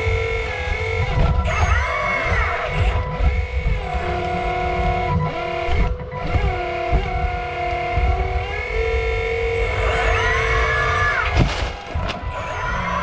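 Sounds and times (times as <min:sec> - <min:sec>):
hydraulic pump whining: 0:00.0 - 0:13.0.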